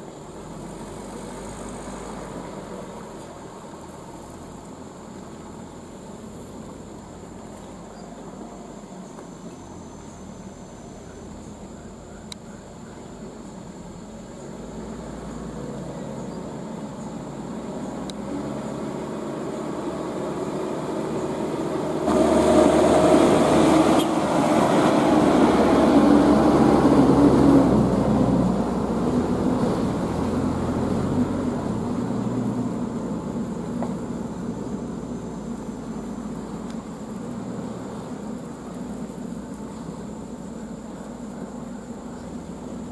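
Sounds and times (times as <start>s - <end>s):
truck diesel engines under load: 0.0s - 42.9s.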